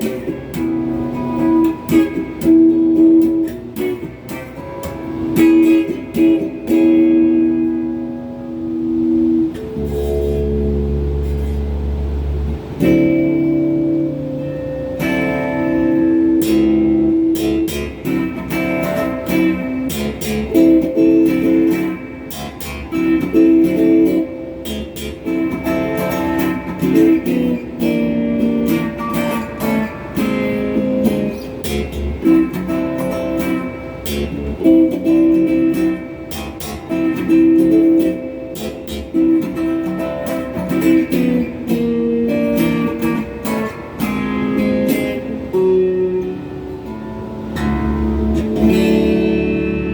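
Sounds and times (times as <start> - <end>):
overdriven electric guitar: 0.0 - 49.9.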